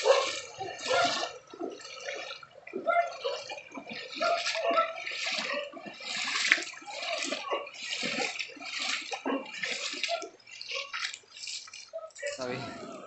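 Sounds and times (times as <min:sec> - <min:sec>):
footsteps splashing in water: 0:00.0 - 0:13.0.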